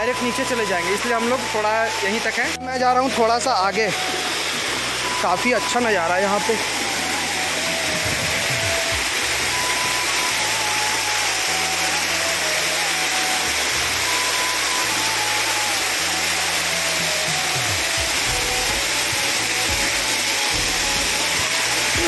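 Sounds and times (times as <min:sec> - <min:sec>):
waterfall rushing: 0:00.0 - 0:22.0
background music with bass line: 0:00.1 - 0:22.0.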